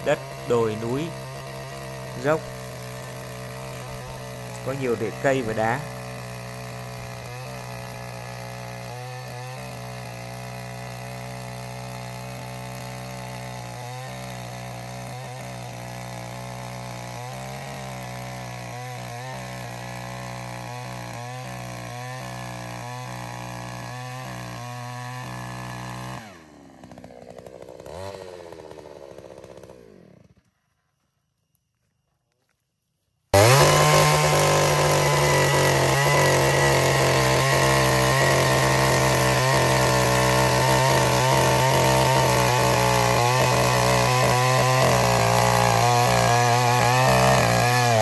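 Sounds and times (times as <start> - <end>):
two-stroke earth auger engine: 0.0 - 30.8, 33.3 - 48.0.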